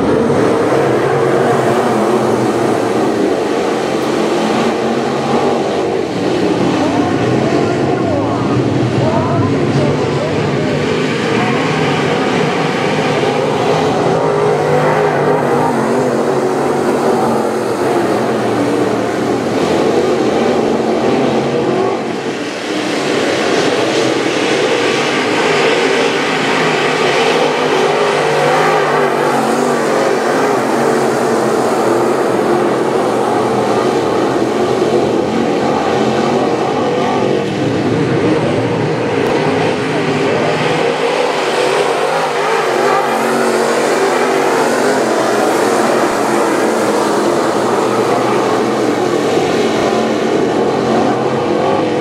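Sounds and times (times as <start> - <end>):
race car engines running hard: 0.0 - 52.0.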